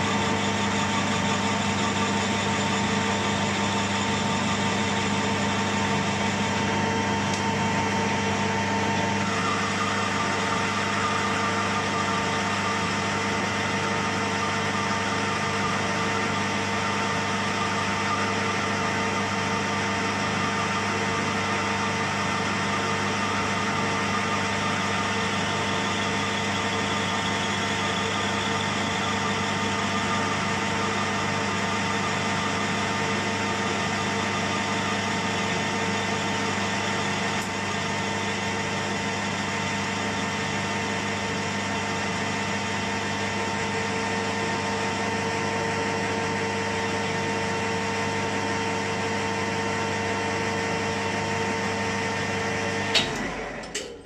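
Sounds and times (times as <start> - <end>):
metal lathe motor hum: 0.0 - 54.0.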